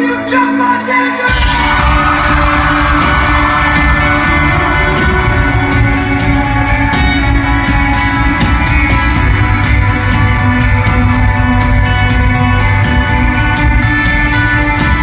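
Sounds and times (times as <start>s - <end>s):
live rock band playing: 0.1s - 15.0s
guitar chords: 1.1s - 15.0s.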